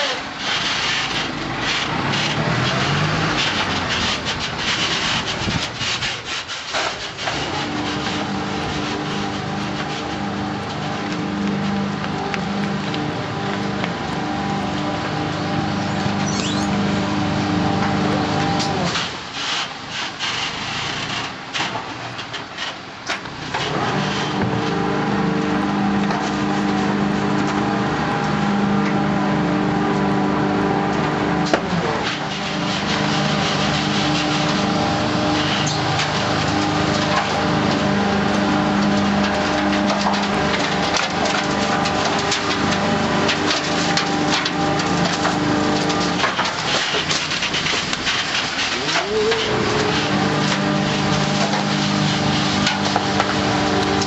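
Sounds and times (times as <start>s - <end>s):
garbage truck compactor grinding: 0.0s - 54.0s
rough rubbing and scraping: 0.0s - 54.0s.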